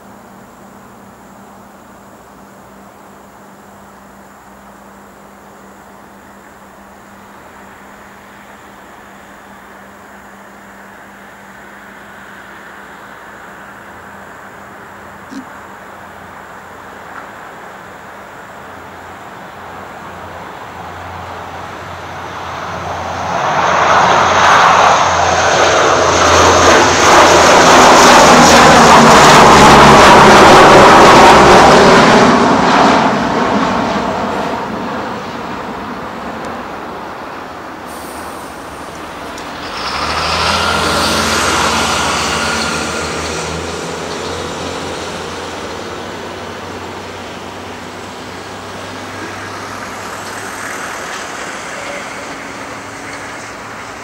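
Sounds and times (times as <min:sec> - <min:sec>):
turboprop aircraft passing: 0:02.4 - 0:54.0.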